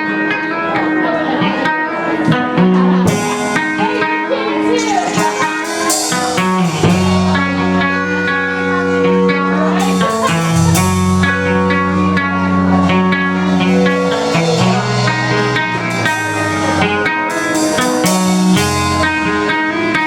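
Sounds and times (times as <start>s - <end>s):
bass line: 0.0s - 20.0s
guitar playing: 0.0s - 20.0s.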